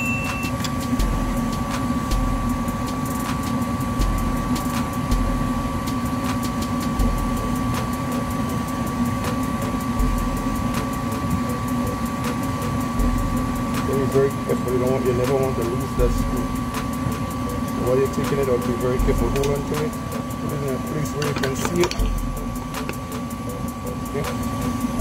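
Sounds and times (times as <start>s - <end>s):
furnace mechanical hum: 0.0s - 25.0s
high motor whine: 0.0s - 25.0s.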